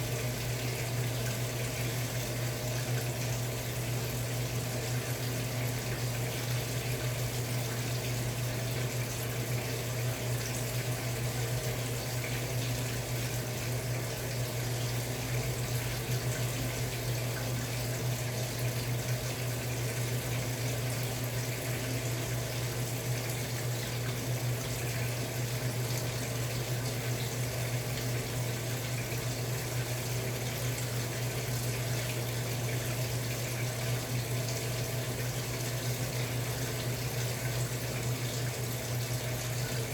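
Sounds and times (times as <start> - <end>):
water churning in washing machine: 0.0 - 39.9.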